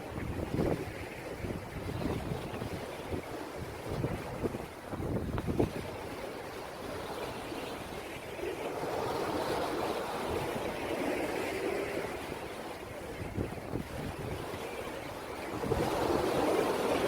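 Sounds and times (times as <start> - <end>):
sea waves washing on shore: 0.0 - 17.0
wind buffeting microphone: 0.0 - 17.0.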